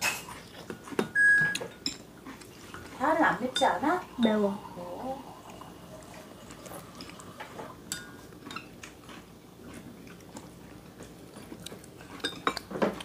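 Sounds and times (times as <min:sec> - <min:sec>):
person chewing: 0:00.1 - 0:03.0, 0:05.3 - 0:13.0.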